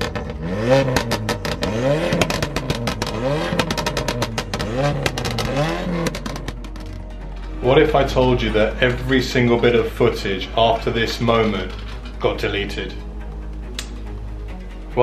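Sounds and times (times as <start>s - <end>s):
car engine revving: 0.0s - 15.0s
exhaust crackles: 0.0s - 15.0s.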